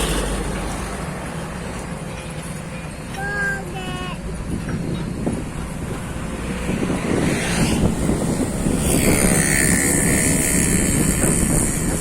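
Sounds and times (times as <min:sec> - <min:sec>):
diesel excavator running: 0:00.0 - 0:12.0.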